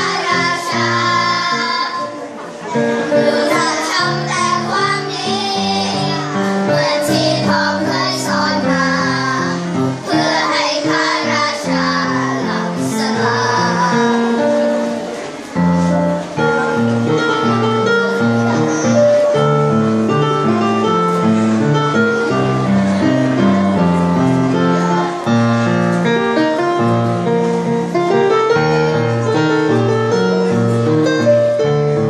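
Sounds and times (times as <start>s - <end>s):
children's choir singing: 0.0s - 30.8s
piano accompaniment: 0.0s - 32.0s.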